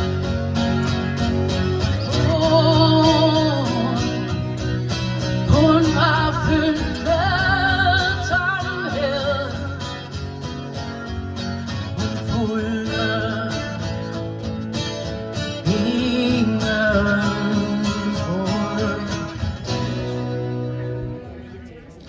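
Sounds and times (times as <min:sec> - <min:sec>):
strummed acoustic guitar: 0:00.0 - 0:21.7.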